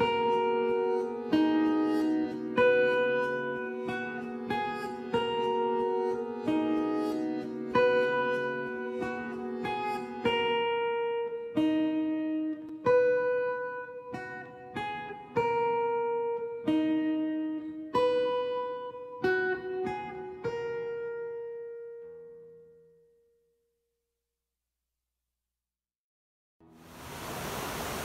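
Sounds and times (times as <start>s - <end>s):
acoustic guitar picking: 0.0s - 23.1s.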